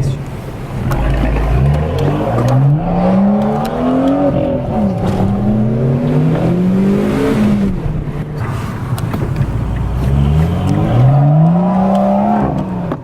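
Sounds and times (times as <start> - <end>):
car engine accelerating: 0.7 - 13.0.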